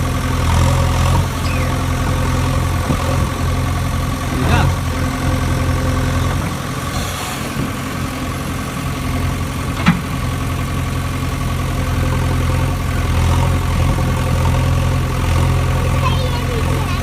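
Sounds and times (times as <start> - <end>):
heavy engine idling: 0.0 - 17.0.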